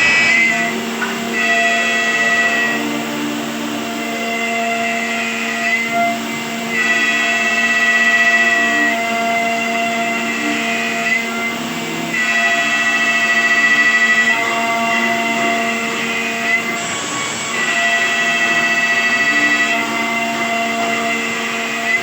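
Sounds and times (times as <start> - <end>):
woodworking machine whining: 0.0 - 22.0.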